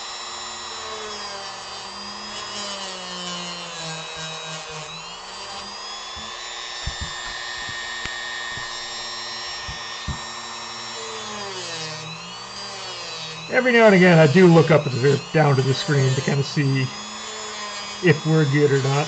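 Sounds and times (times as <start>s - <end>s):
rotary tool whining carving wood: 0.0s - 19.0s.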